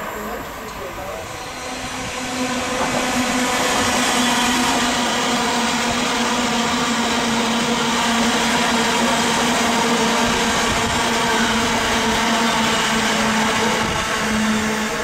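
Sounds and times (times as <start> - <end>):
train traction whine: 0.0 - 15.0
train wheels rushing on rails: 0.0 - 15.0.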